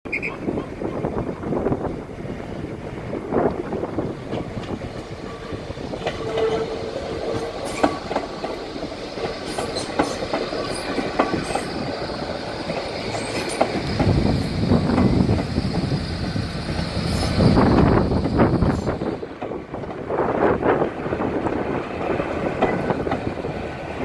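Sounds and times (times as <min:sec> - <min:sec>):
low train rumble: 0:00.1 - 0:24.0
train wheels clicking over rails: 0:03.4 - 0:24.0.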